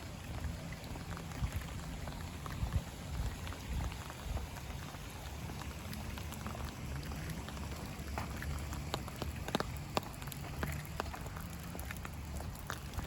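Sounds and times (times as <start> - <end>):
rain drops ticking: 0.0 - 13.0.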